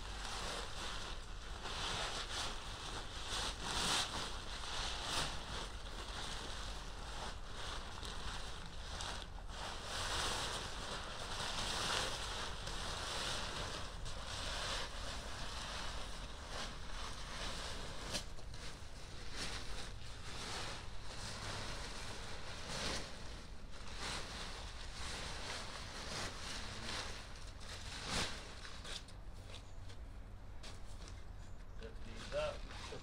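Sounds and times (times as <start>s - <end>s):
fabric rustling and swishing: 0.0s - 29.7s.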